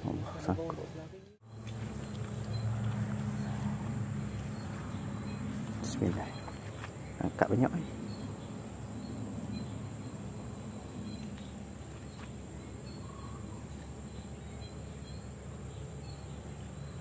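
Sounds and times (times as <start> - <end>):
high insect drone: 0.3 - 17.0.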